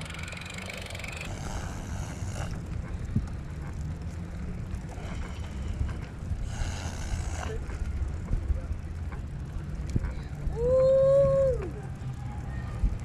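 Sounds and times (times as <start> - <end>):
wind rumbling on microphone: 1.2 - 13.0.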